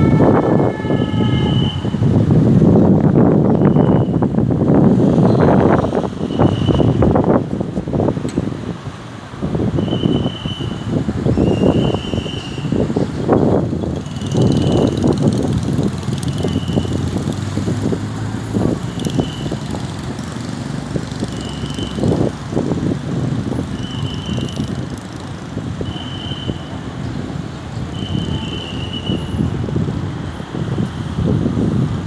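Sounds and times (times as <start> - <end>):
road traffic: 0.0 - 32.0
wind on microphone: 0.0 - 32.0.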